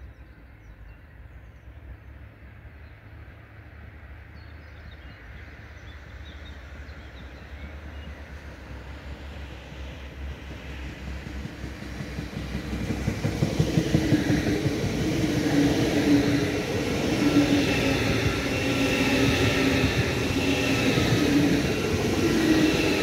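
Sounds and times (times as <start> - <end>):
high-speed train passing: 0.0 - 23.0.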